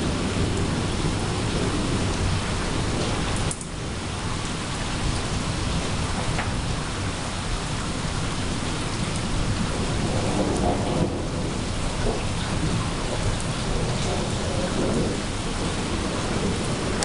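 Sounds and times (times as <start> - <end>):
steady rain falling: 0.0 - 17.0
thunder rumbling: 0.0 - 17.0.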